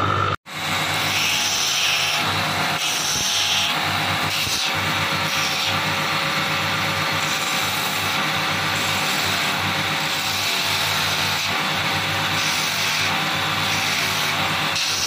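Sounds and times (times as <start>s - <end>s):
polishing wheel motor hum: 0.0s - 15.0s.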